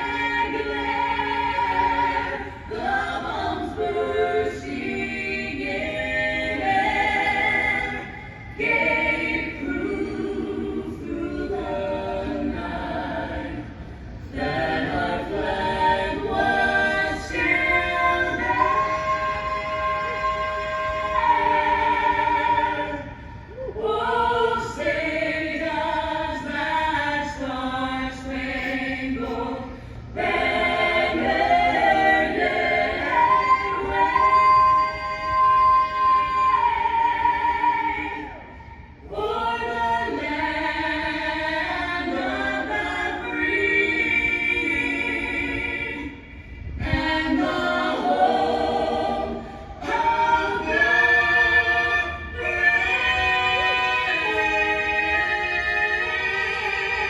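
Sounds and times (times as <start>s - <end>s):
voices singing in harmony: 0.0s - 57.0s.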